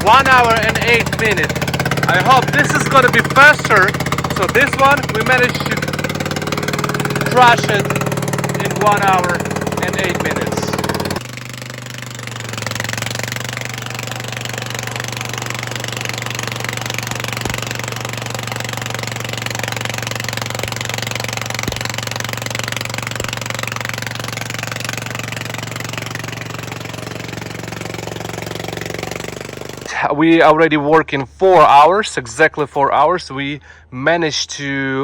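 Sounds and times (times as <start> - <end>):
stump grinder engine running: 0.0 - 30.4.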